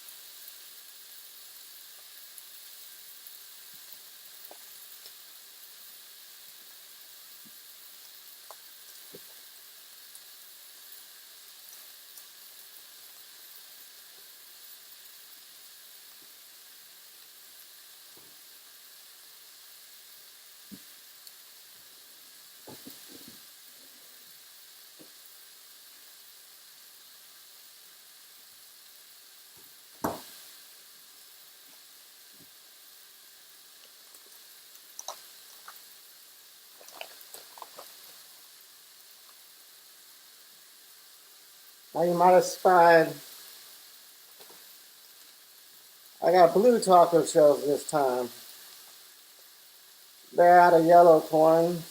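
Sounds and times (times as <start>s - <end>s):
meat sizzling in a frying pan: 0.0s - 51.9s.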